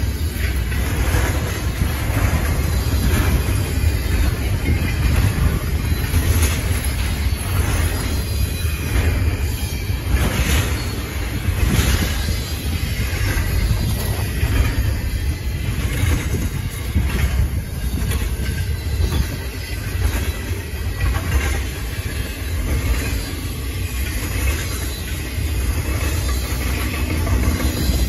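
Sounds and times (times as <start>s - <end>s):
freight car wheels rumbling on rail: 0.0s - 28.0s
wheel clacks: 0.0s - 28.0s.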